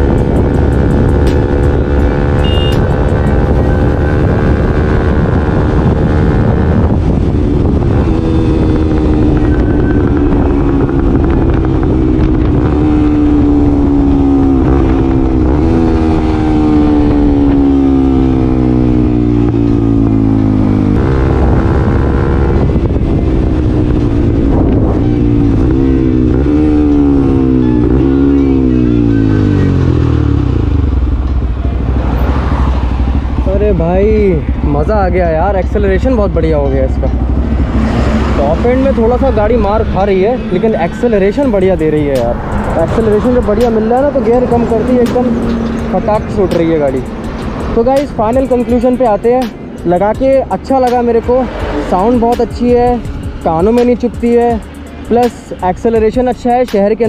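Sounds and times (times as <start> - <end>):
motorcycle engine revving: 0.0 - 57.0
wind rumble: 0.0 - 57.0.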